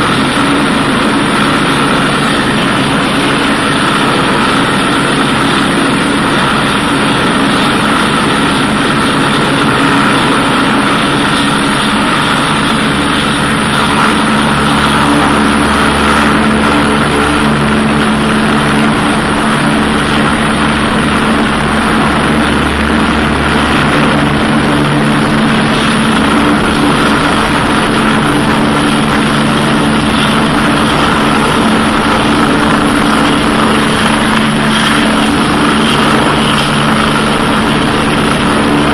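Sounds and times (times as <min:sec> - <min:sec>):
helicopter running: 0:00.0 - 0:38.9.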